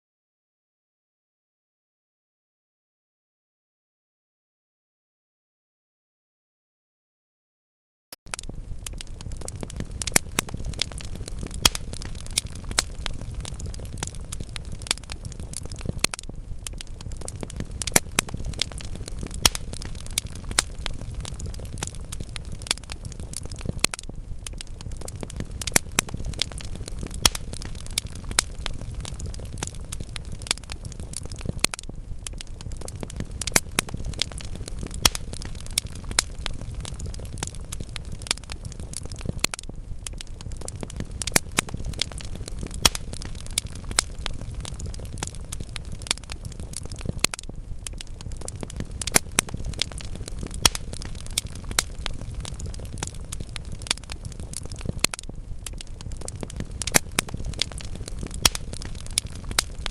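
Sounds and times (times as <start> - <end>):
burning logs crackling and popping: 8.3 - 59.9
flames rumbling: 8.3 - 59.9.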